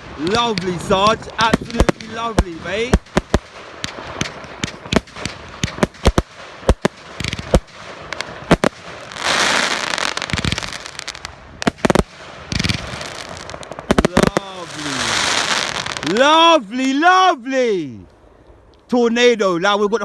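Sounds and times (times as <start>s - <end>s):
firework bangs: 0.0s - 16.3s
firework crackling: 0.0s - 16.4s.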